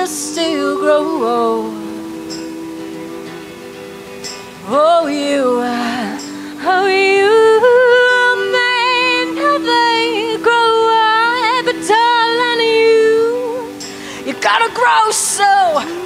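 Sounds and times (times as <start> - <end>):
woman singing long held notes: 0.0 - 16.0.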